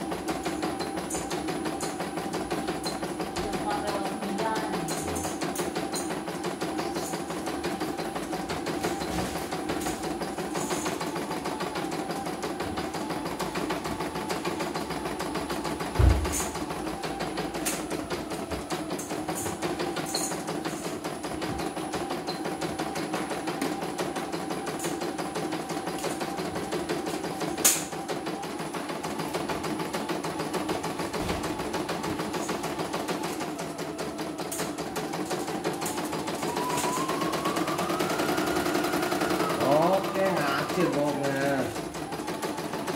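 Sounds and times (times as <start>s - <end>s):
embroidery machine stitching: 0.0s - 42.9s.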